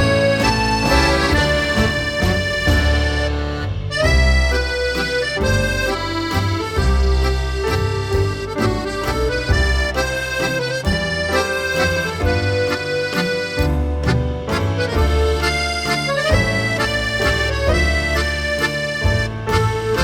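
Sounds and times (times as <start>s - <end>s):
accordion music: 0.0s - 20.0s
bass line: 0.0s - 20.0s.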